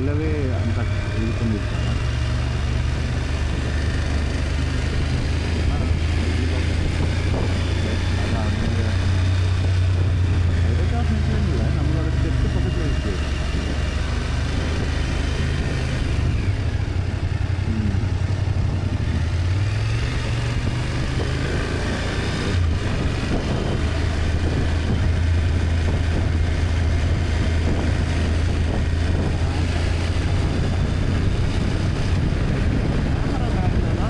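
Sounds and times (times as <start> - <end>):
motorcycle engine running: 0.0 - 34.0
wind noise: 0.0 - 34.0.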